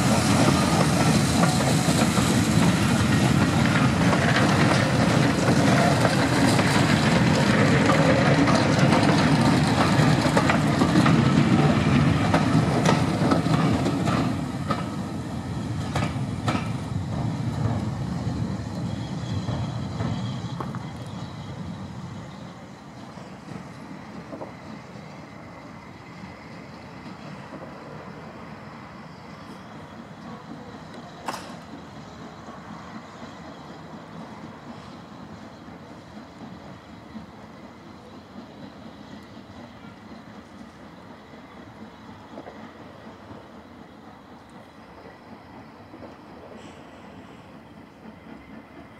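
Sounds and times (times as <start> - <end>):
train wheels clicking over rail joints: 0.0 - 48.9.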